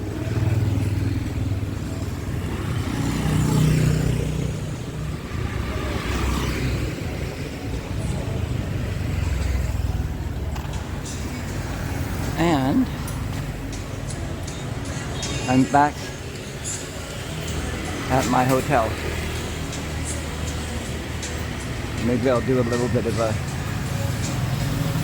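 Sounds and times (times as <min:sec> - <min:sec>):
motorbikes and cars passing: 0:00.0 - 0:25.0.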